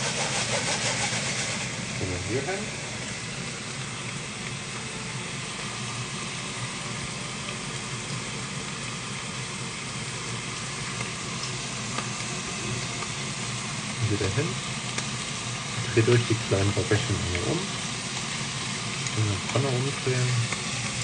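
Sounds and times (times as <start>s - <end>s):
prawns sizzling in hot oil: 0.0s - 21.0s.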